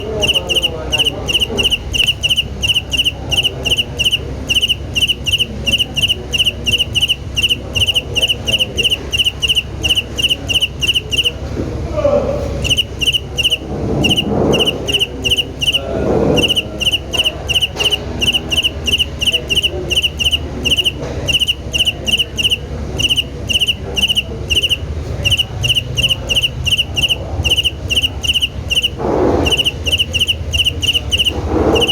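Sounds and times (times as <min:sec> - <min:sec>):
cricket chirping: 0:00.0 - 0:11.6, 0:12.4 - 0:31.9.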